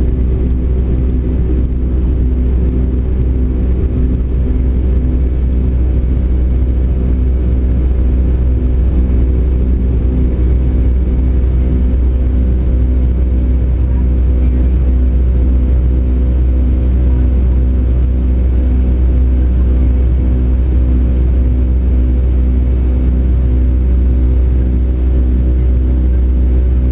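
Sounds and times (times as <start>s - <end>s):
engine and airflow rumble: 0.0s - 26.9s
pulsing hum of steady tones: 0.0s - 26.9s.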